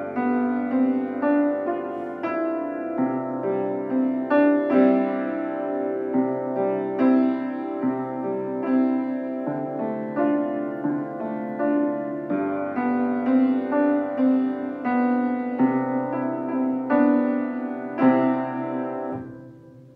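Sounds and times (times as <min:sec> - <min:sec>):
upright piano melody: 0:00.0 - 0:19.9.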